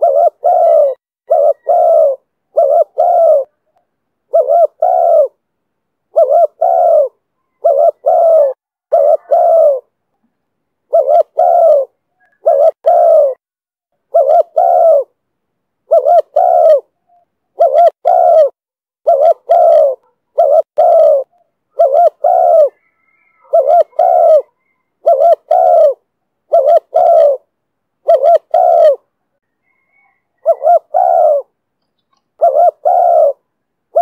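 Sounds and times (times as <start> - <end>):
dove cooing: 0.0 - 5.4, 6.1 - 10.0, 10.9 - 13.4, 14.0 - 15.2, 15.8 - 34.0.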